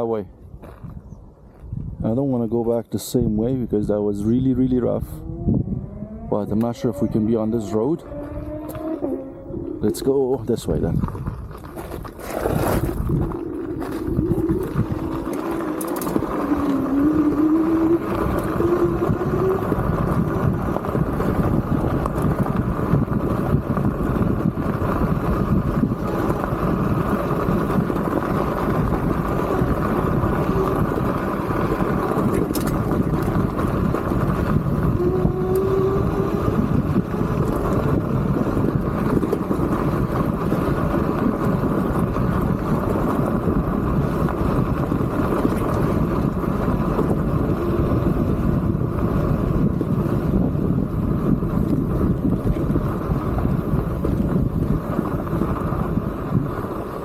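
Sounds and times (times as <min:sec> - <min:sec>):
tyres rumbling on rough ground: 0:00.0 - 0:57.0
wind buffeting microphone: 0:00.0 - 0:57.0.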